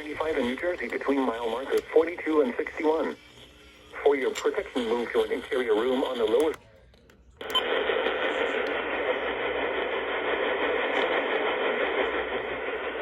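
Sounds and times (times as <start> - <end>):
radio static hiss: 0.0 - 6.6, 7.4 - 13.0.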